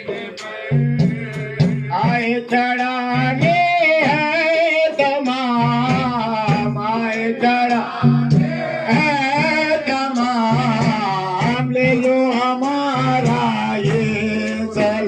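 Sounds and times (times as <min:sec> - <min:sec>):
men singing a hymn: 0:00.0 - 0:15.0.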